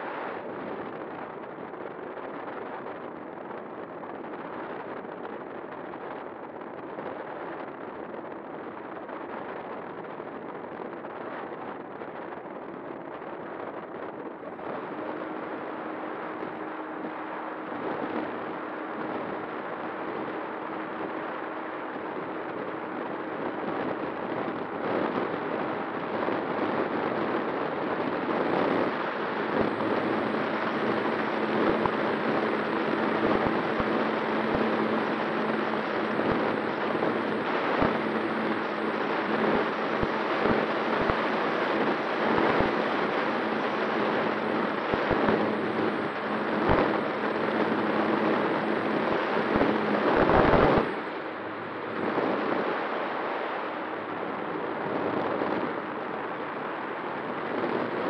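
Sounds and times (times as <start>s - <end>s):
wind buffets crackling: 0.0s - 58.0s
wind rushing over microphone: 0.0s - 58.0s
electric motor and propeller hum: 11.2s - 58.0s.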